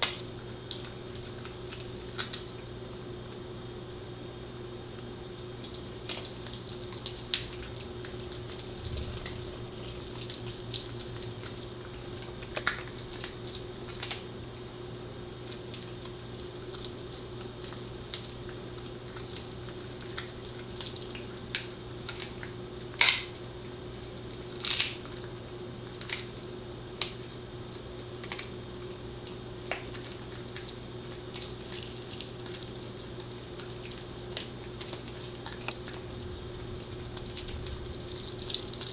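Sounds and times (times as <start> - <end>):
dog crunching on a chew: 0.0 - 2.6, 5.5 - 14.3, 15.4 - 38.9
steady low hum: 0.0 - 38.9.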